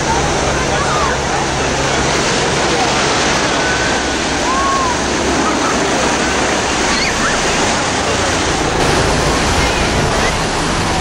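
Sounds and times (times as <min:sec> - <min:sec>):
faint voices: 0:00.0 - 0:11.0
ocean surf rushing: 0:00.0 - 0:11.0.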